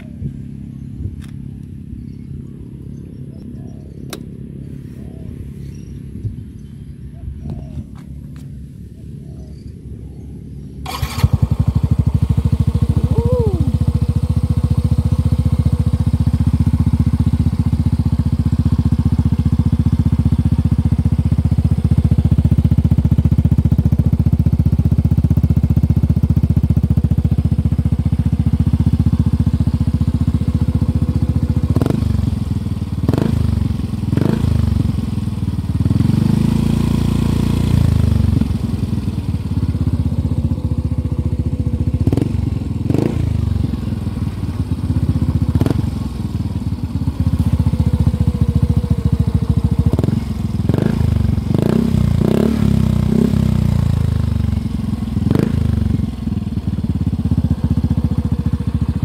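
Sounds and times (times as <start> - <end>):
scooter engine idling and revving: 0.0 - 59.0.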